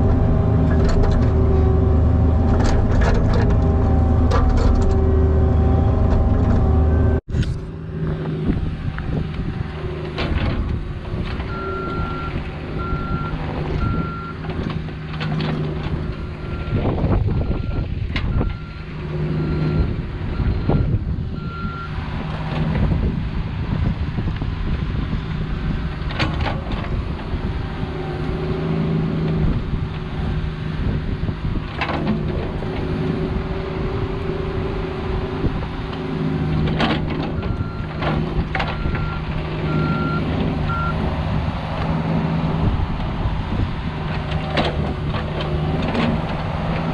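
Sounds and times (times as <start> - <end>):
diesel engine running under load: 0.0 - 46.9.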